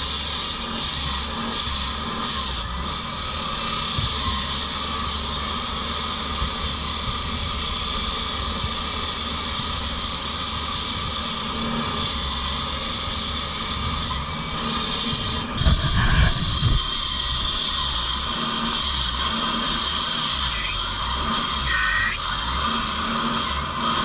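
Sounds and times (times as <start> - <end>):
blade grinding asphalt: 0.0 - 24.0
saw engine drone: 0.0 - 24.0.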